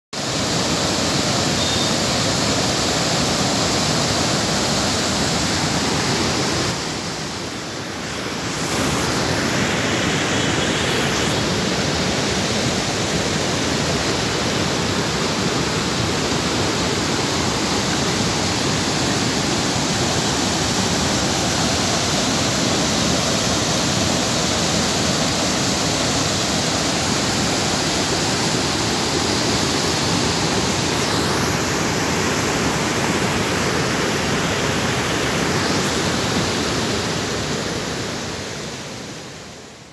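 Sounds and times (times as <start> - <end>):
floodwater rushing: 0.2 - 39.6.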